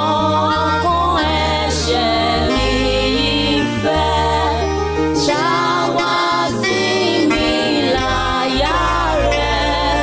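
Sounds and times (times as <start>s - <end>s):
sustained low bass notes: 0.0s - 10.0s.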